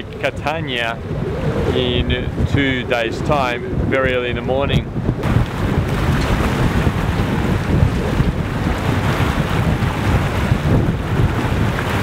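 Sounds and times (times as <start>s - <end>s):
boat wake rushing water: 0.0s - 12.0s
heavy wind buffeting microphone: 0.0s - 12.0s.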